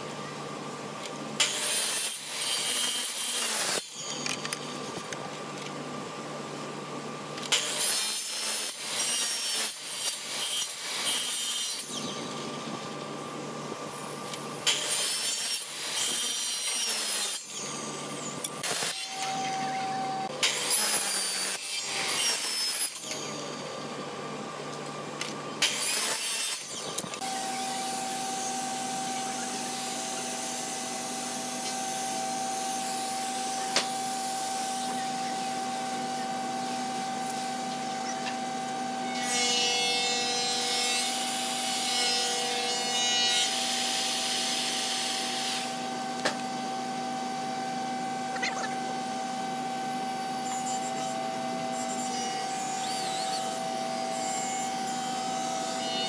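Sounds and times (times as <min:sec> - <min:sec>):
steady hum with tone: 0:00.0 - 0:09.0, 0:09.8 - 0:16.2, 0:17.4 - 0:56.0
miter saw cutting wood: 0:01.3 - 0:05.1, 0:07.5 - 0:56.0.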